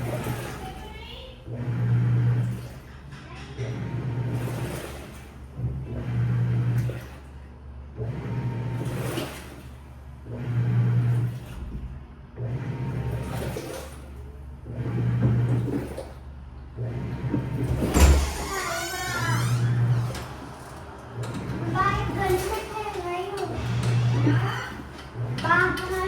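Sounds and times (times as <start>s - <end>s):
washing machine drum swishing: 0.0s - 26.0s.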